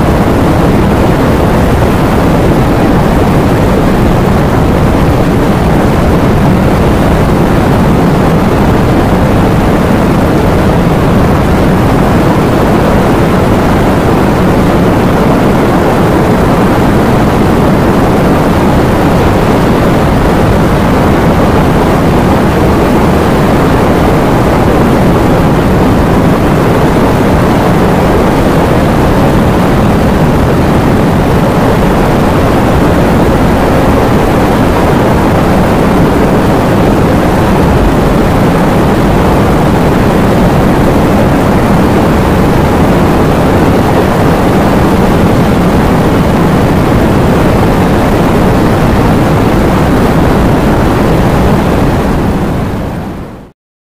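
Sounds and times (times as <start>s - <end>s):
heavy rain: 0.0s - 53.4s.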